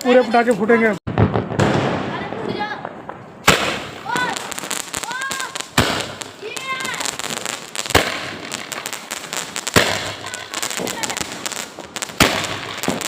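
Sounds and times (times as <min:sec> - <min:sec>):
fireworks bangs: 0:00.0 - 0:13.0
fireworks crackles and pops: 0:00.0 - 0:13.0.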